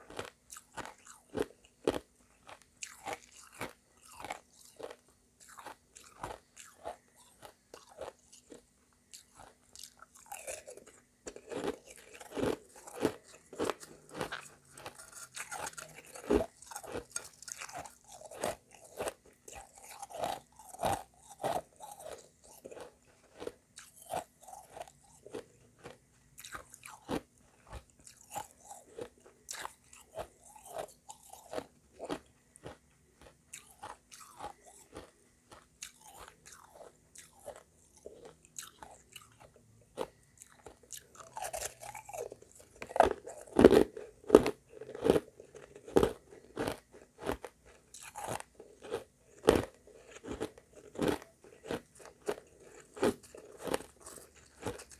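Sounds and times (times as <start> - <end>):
chewing crunchy ice: 0.0 - 54.9.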